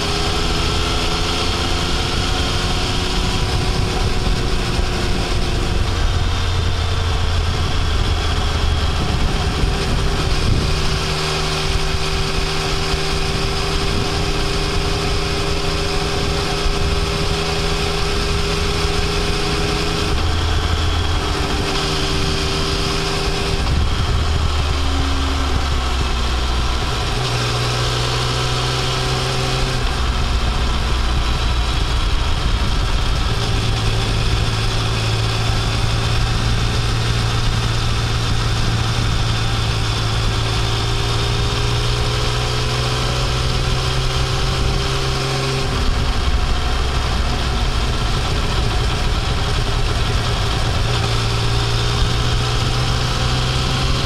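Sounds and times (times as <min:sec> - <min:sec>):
motorcycle engine pulling uphill: 0:00.0 - 0:54.0
wind and road noise: 0:00.0 - 0:54.0.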